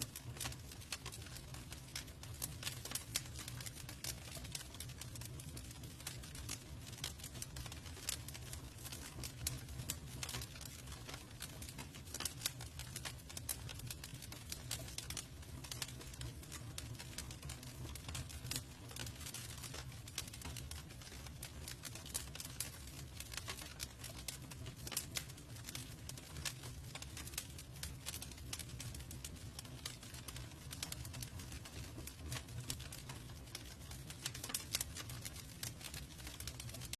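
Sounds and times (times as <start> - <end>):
campfire crackling and popping: 0.0 - 36.9
low rumble of fire: 0.0 - 36.9.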